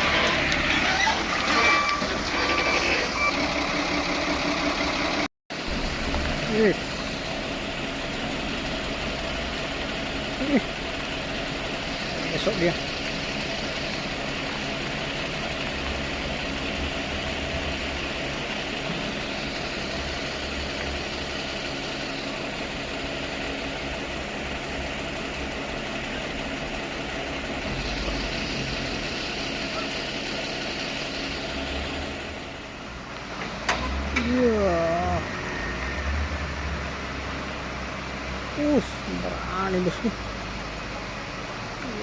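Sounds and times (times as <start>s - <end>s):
truck diesel engine running: 0.0s - 42.0s.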